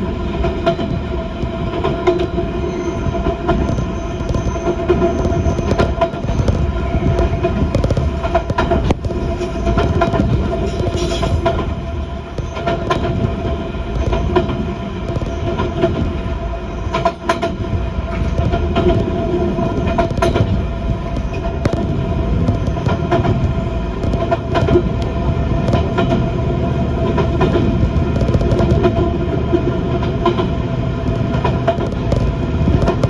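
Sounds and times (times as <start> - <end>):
train drive whine: 0.0 - 33.0
train rumble inside carriage: 0.0 - 33.0
wheels clacking over rail joints: 0.4 - 33.0.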